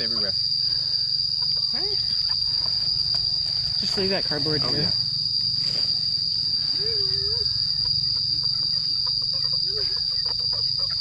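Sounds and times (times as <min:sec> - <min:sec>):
faint murmurs: 0:00.0 - 0:10.8
insects droning: 0:00.0 - 0:11.0.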